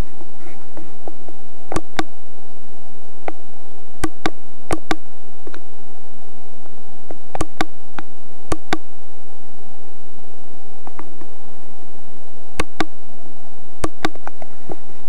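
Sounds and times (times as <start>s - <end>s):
buzzing hum: 0.0s - 15.0s.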